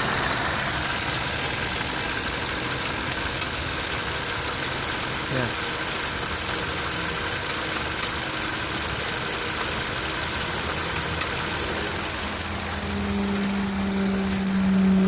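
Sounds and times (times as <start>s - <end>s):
car engine idling with knocking: 0.0s - 15.0s.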